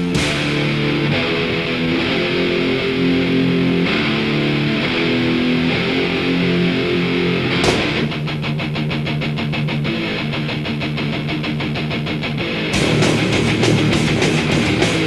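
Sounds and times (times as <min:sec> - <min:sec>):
distorted electric guitar chords: 0:00.0 - 0:15.0
heavy metal band playing: 0:00.0 - 0:15.0.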